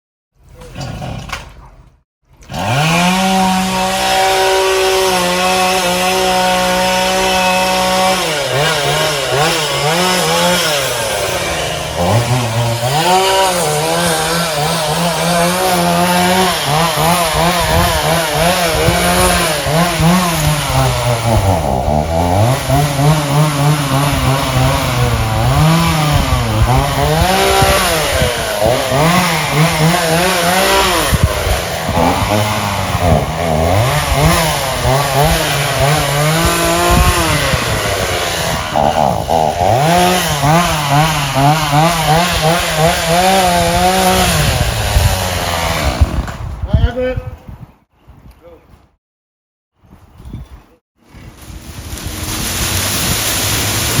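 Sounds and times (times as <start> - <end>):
chainsaw cutting wood: 0.6 - 1.6, 2.3 - 46.6.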